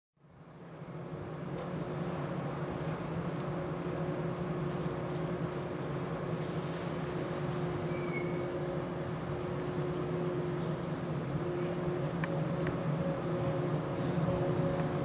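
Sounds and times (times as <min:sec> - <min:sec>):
train electrical hum: 0:00.2 - 0:15.0.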